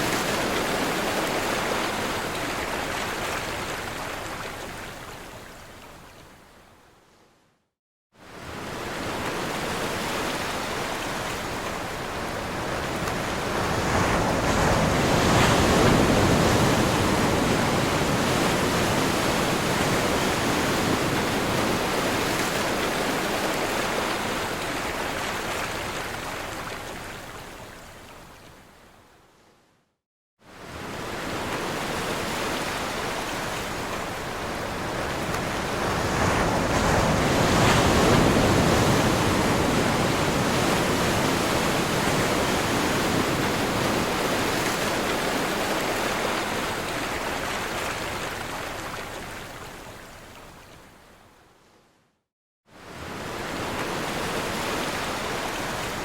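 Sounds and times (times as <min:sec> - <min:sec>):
ocean waves crashing on shore: 0:00.0 - 0:05.5, 0:08.2 - 0:27.9, 0:30.5 - 0:50.7, 0:52.7 - 0:56.0.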